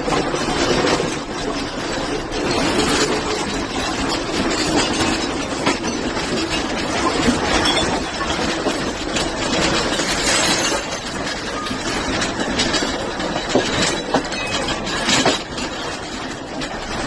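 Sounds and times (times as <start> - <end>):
loud rumbling rattling noise: 0.0 - 17.0.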